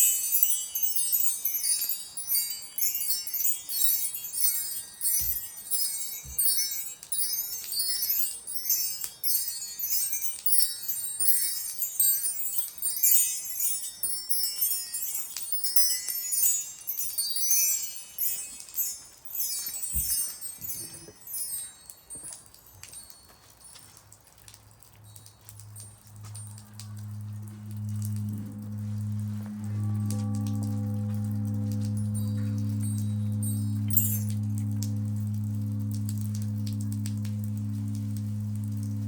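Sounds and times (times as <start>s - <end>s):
wind chimes tinkling: 0.0s - 39.0s.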